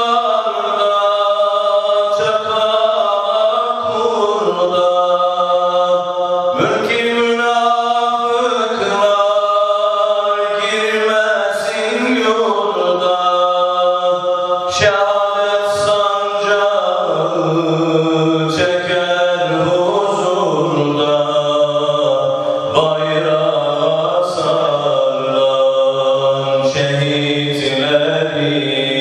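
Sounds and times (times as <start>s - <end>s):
man chanting into microphone: 0.0s - 29.0s.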